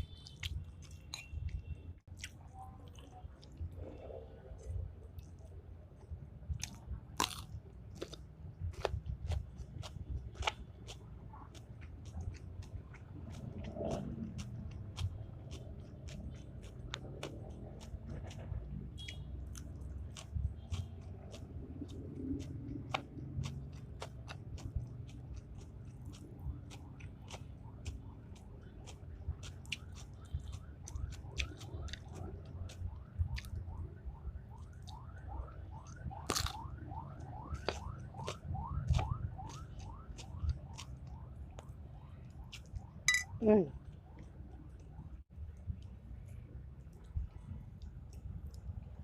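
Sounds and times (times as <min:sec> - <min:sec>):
person chewing crunchy food: 0:00.0 - 0:33.8, 0:34.4 - 0:43.3, 0:45.8 - 0:49.0.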